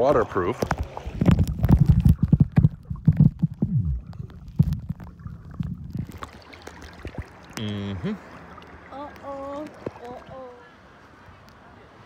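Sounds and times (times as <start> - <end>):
muffled underwater sloshing: 0.0 - 11.9
wind: 0.0 - 12.0
lapping water: 0.4 - 10.7.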